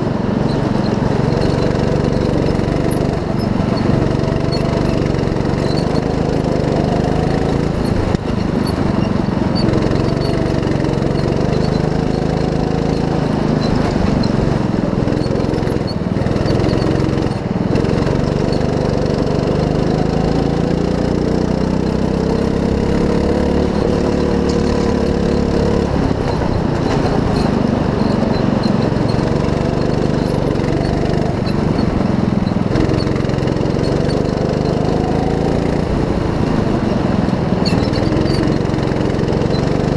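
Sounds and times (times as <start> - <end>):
go-kart engine running hard: 0.0 - 39.9.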